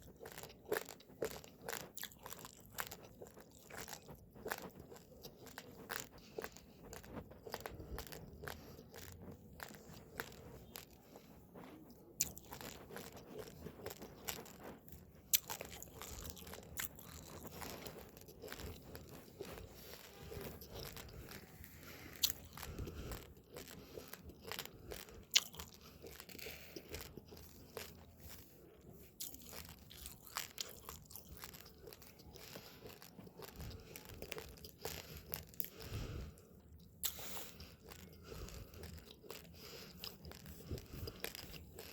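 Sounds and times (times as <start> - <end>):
chewing raw rice: 0.0 - 41.9.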